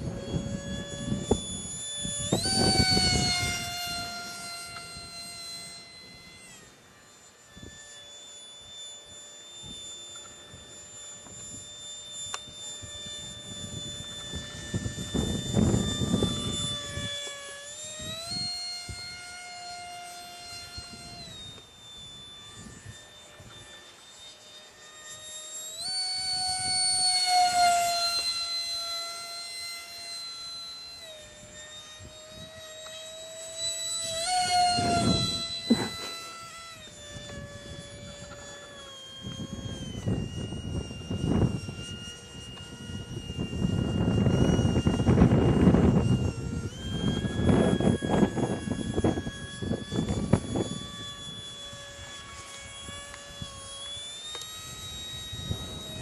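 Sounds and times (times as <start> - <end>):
model jet whine: 0.0 - 56.0.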